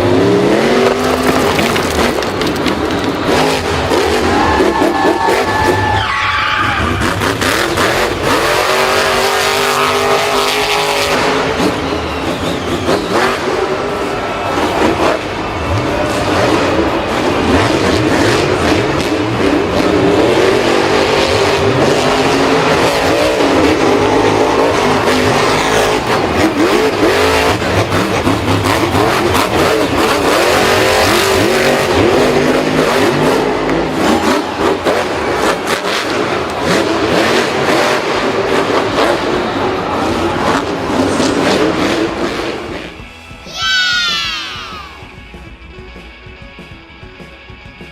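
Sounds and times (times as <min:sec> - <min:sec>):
tyres skidding and squealing: 0:00.0 - 0:45.2
vehicle engines revving: 0:00.0 - 0:47.9.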